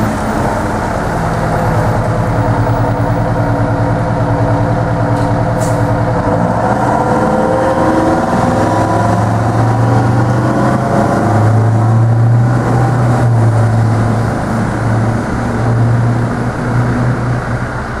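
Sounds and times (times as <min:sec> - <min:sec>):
fire truck diesel engine accelerating: 0:00.0 - 0:18.0.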